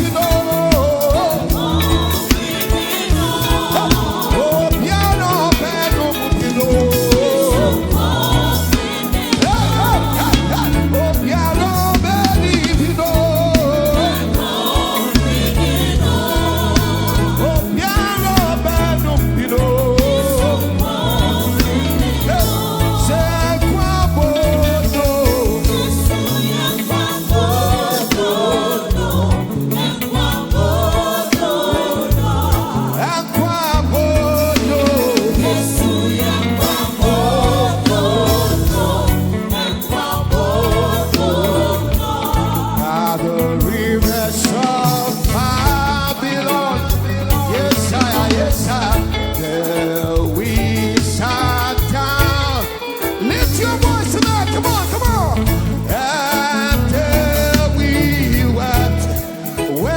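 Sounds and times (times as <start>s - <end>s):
band playing gospel music: 0.0s - 59.9s
lead and choir singing: 0.0s - 59.9s.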